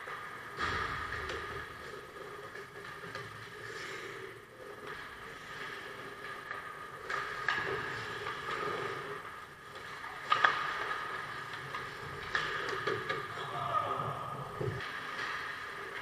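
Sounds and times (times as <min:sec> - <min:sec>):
hockey sticks and puck clacking: 0:00.0 - 0:16.0.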